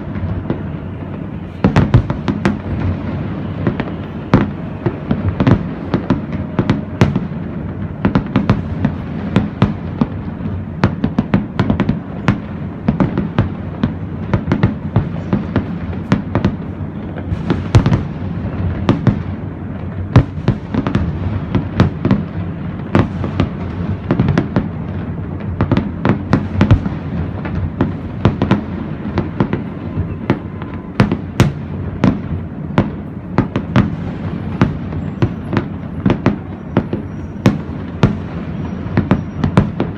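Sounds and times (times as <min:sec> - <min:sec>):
fireworks bangs and pops: 0:00.0 - 0:39.9
low rumble of explosions: 0:00.0 - 0:39.9.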